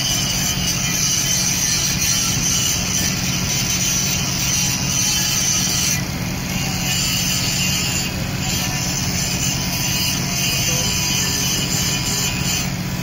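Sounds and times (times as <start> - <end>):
ship engines droning: 0.0 - 13.0.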